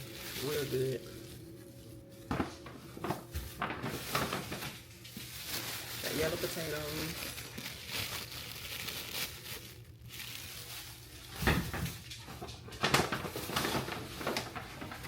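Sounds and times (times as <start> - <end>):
grocery packaging rustling: 0.0 - 15.0.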